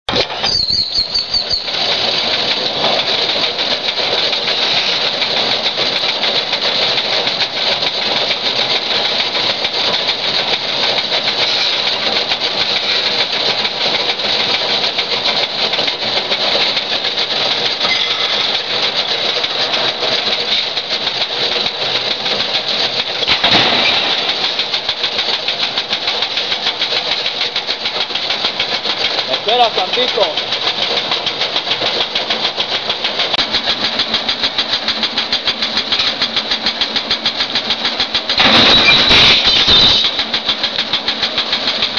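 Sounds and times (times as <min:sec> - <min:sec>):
shear motor rattling: 0:00.1 - 0:41.9.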